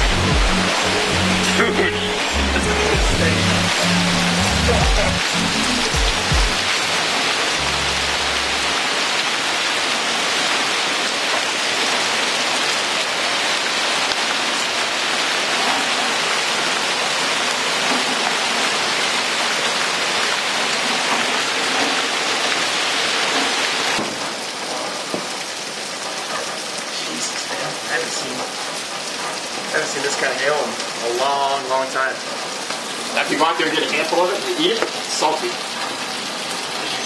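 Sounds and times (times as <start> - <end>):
hail and heavy rain pelting: 0.0 - 37.0.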